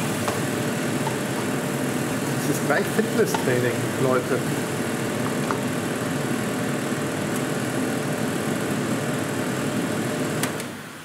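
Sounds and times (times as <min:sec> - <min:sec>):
kitchen extractor fan whooshing: 0:00.0 - 0:11.0.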